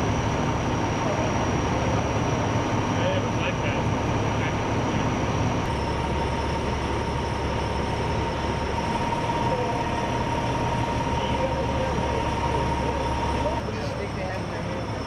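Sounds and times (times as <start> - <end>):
heavy machinery rumble: 0.0 - 15.0
high whine: 0.0 - 15.0.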